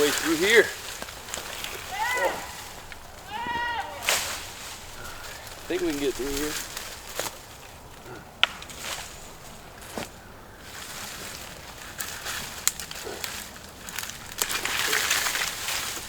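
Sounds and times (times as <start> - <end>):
branches snapping: 0.0 - 16.0
leaves and twigs rustling: 0.0 - 16.0.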